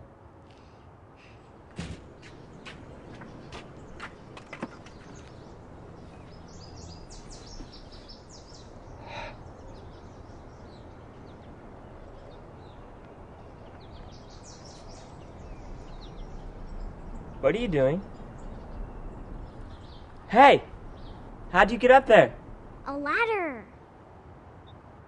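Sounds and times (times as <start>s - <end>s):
outdoor background noise: 0.0s - 25.0s
small birds twittering: 1.3s - 23.5s.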